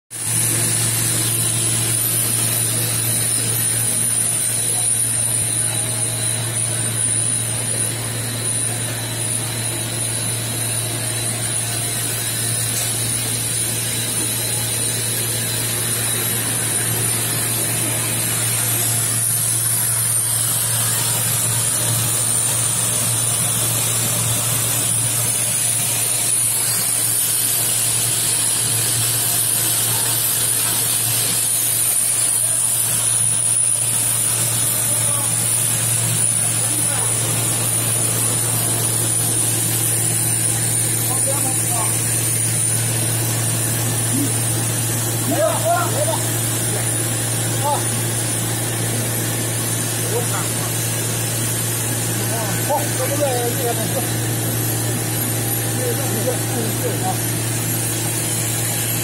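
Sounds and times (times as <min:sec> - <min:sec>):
machine hum with high whine: 0:00.2 - 0:59.0.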